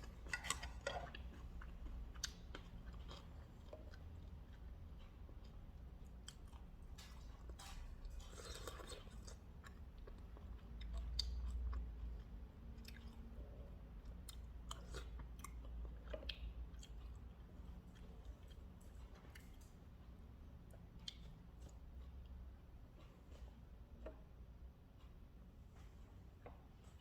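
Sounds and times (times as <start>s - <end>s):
person chewing food: 0.0s - 25.1s.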